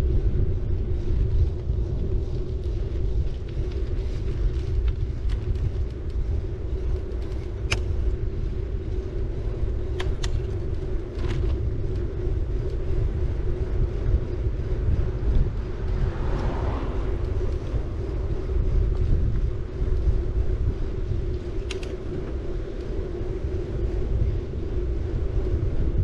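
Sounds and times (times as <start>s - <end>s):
bike tyres and wind rumble: 0.0s - 26.0s
low hum: 0.0s - 26.0s.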